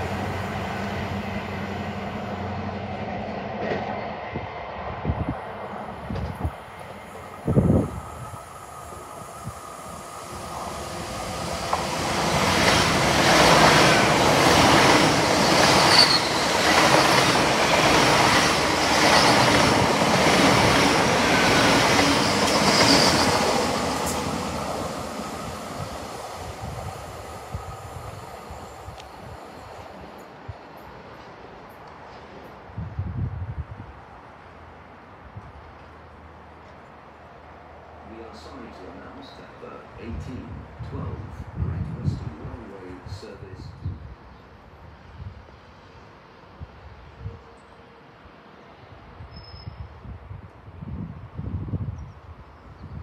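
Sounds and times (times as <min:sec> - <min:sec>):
passenger train passing: 0:00.0 - 0:53.0.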